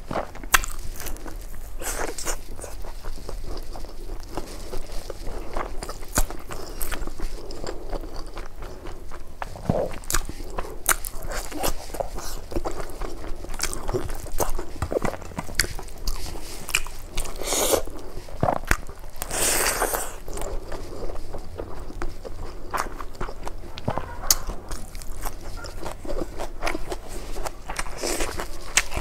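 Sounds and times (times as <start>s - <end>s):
chewing with wet mouth clicks: 0.1s - 29.0s.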